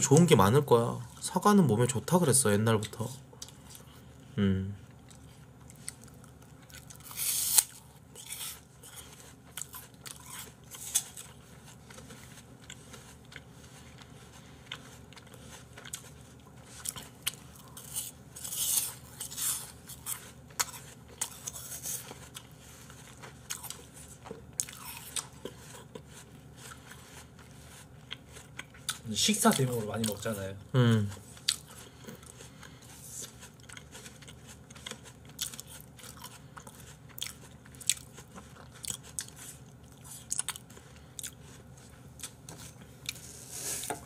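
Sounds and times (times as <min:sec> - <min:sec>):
person chewing crisp apple: 0:02.8 - 0:44.0.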